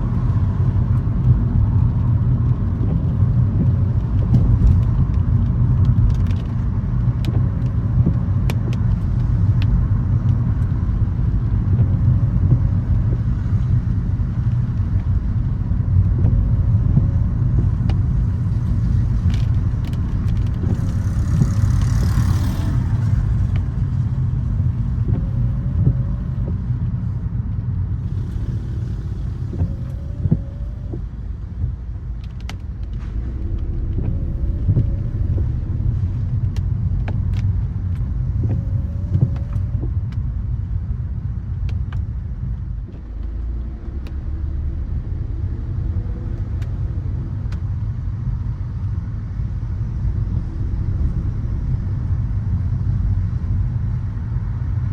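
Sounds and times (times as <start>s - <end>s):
car engine and tyres rumbling: 0.0s - 54.9s.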